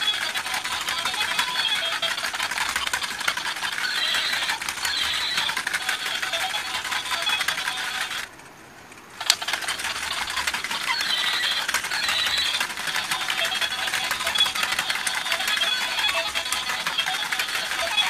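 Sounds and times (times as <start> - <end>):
toy motor and gears clicking: 0.0 - 8.3, 9.2 - 18.0.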